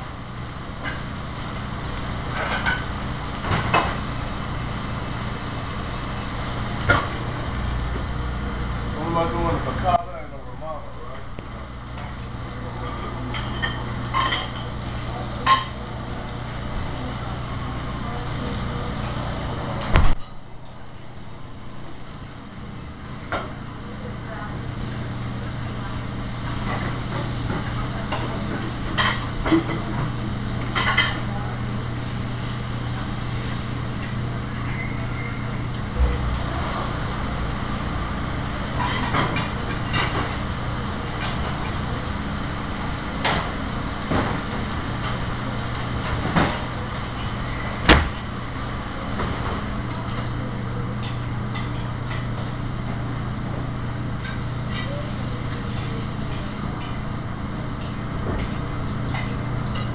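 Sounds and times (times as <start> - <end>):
exhaust hood drone: 0.0 - 59.9.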